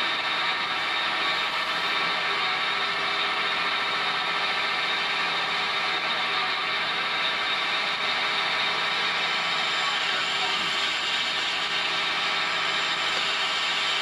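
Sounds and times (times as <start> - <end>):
engine droning steadily: 0.0 - 14.0.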